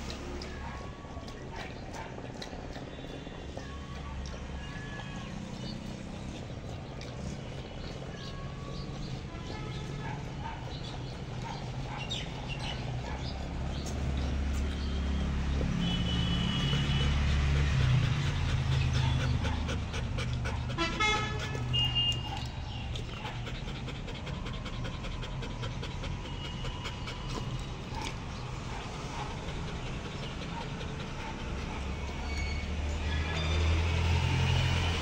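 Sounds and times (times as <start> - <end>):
dog lapping water from metal bowl: 0.0 - 32.0
dog panting: 0.0 - 35.0.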